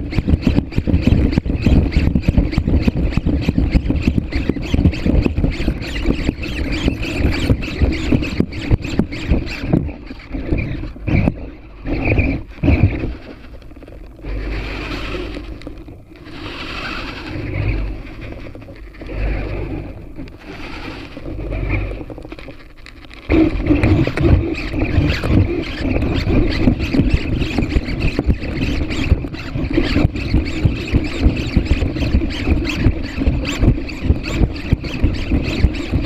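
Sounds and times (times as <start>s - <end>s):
low pulsing rumble: 0.0s - 36.0s
robot servos whirring and ticking: 0.0s - 36.0s.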